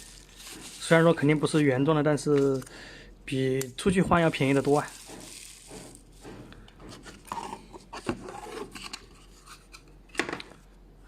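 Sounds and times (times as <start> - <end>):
phone parts handled on surface: 0.0 - 2.7, 3.9 - 10.5.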